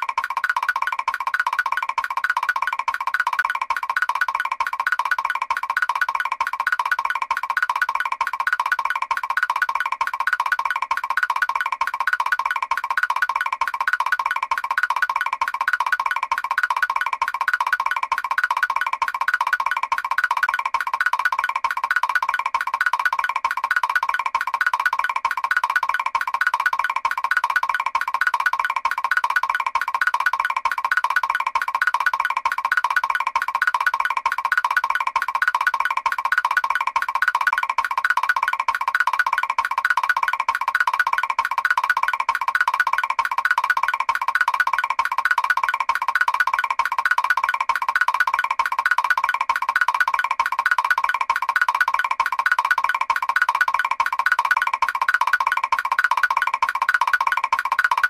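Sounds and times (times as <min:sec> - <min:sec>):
cartoon walking tapping notes: 0:00.0 - 0:58.0
rapid hollow clicks: 0:00.0 - 0:58.0.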